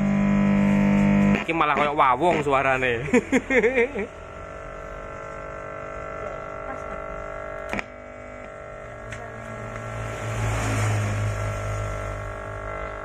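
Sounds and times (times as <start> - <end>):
speaker electrical hum and buzz: 0.0 - 13.0.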